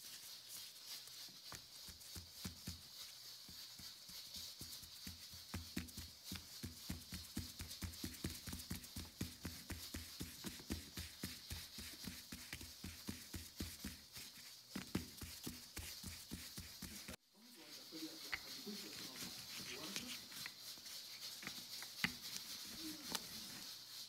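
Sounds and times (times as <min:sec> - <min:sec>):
hands patting dough: 0:00.0 - 0:24.0.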